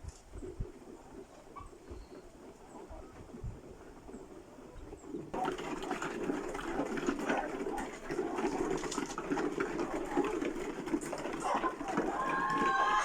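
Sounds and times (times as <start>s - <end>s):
farm birds chattering: 0.3s - 13.0s.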